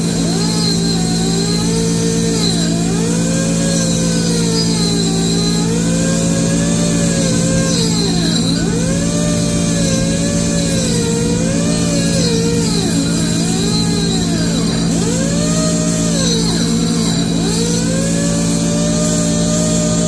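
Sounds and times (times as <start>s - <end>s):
motor hum: 0.0s - 20.0s
whine rising and falling: 0.0s - 20.0s.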